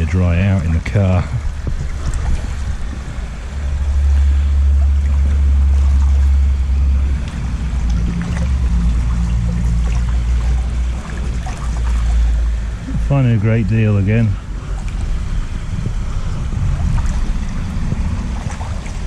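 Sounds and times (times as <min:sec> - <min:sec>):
wind buffeting microphone: 0:00.0 - 0:19.0
person wading through water: 0:00.5 - 0:19.0.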